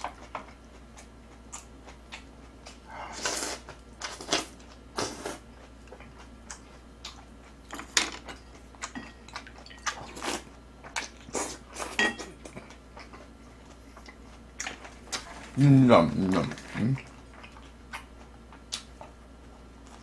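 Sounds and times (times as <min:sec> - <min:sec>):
wet chewing and smacking: 0:00.0 - 0:02.8, 0:05.5 - 0:15.5, 0:16.3 - 0:20.0.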